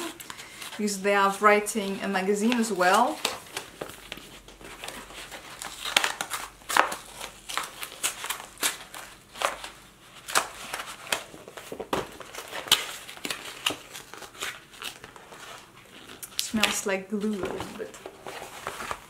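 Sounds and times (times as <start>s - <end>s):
card mailer being torn and crumpled: 2.4s - 19.0s.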